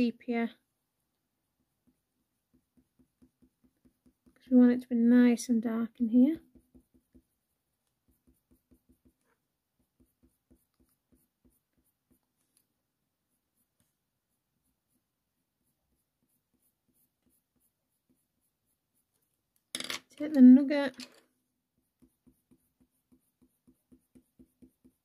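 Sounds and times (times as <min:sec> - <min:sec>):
colour pencil shading on paper: 0:00.5 - 0:19.7, 0:20.3 - 0:25.0.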